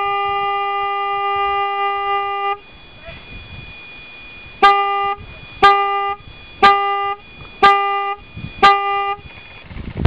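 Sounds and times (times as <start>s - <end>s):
buzzy electronic countdown beeps: 0.0s - 9.6s.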